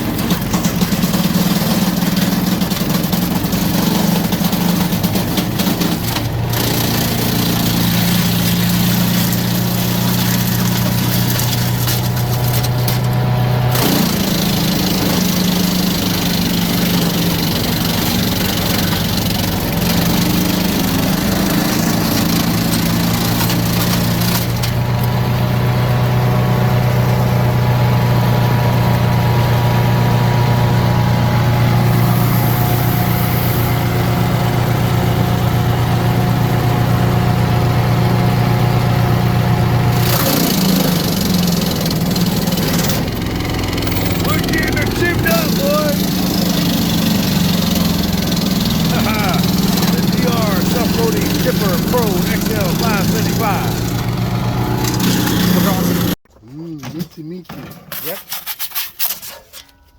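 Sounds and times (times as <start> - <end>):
wood chipper engine running: 0.0 - 56.2
wood grinding through chipper: 0.0 - 59.4.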